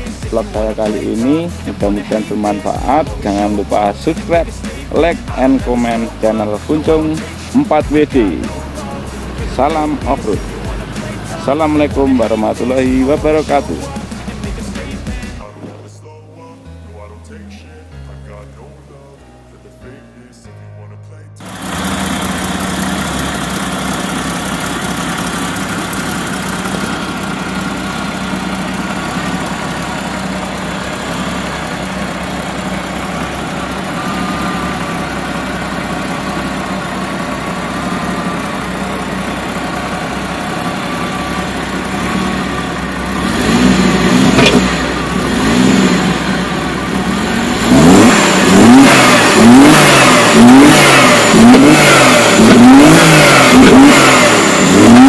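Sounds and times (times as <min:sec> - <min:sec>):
engine revving in throttle blips: 0:00.0 - 0:15.6, 0:21.4 - 0:55.0
car engine idling: 0:00.0 - 0:15.8, 0:21.4 - 0:55.0.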